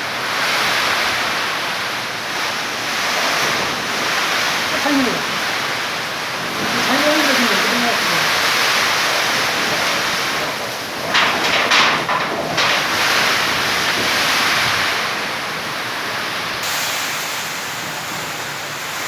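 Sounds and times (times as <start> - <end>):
heavy rain rushing hiss: 0.0 - 19.0.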